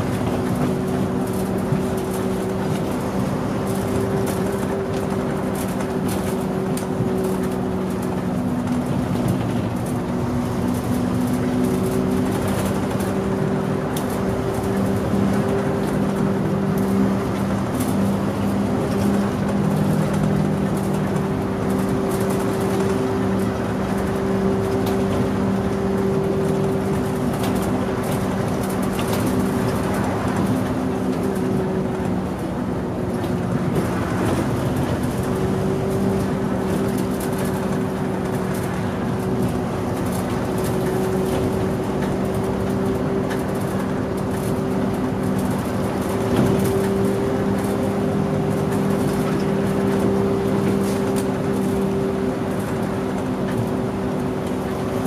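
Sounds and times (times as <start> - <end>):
bus engine droning: 0.0 - 55.0
road noise: 0.0 - 55.0.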